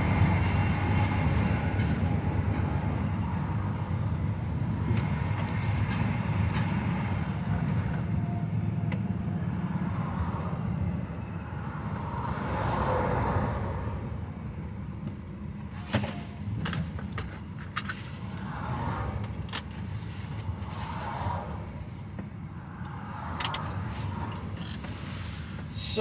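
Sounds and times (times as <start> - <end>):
passing traffic rushing: 0.0 - 26.0
truck engine and tyres droning: 0.0 - 26.0.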